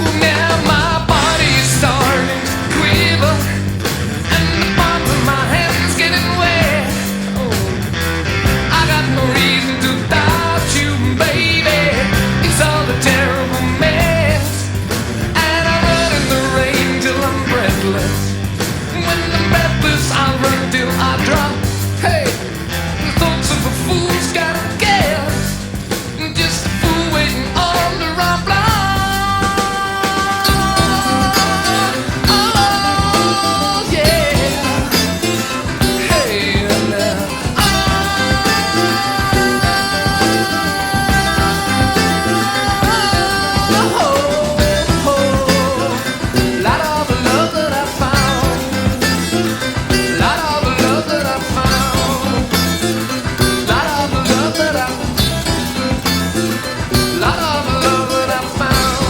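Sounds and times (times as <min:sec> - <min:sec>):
bass line: 0:00.0 - 0:59.0
person singing: 0:00.0 - 0:59.0
upbeat rock song with vocals: 0:00.0 - 0:59.0.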